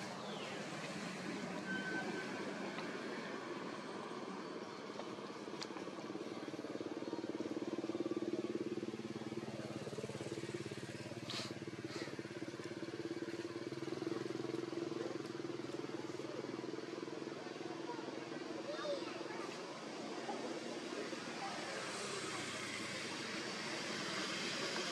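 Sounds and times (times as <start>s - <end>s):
vehicle engine drone: 0.0s - 24.9s.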